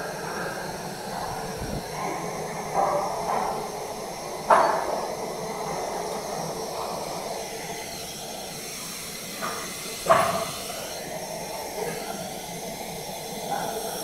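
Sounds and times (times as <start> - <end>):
machine hiss and hum: 0.0 - 14.0.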